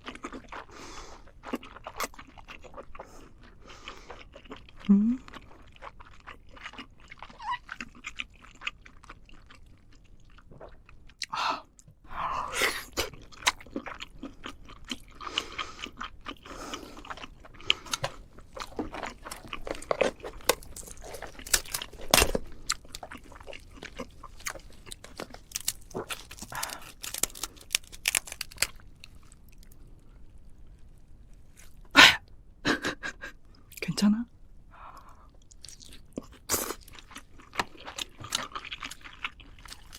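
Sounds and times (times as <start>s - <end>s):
person chewing crunchy food: 0.0s - 31.9s, 34.8s - 39.9s.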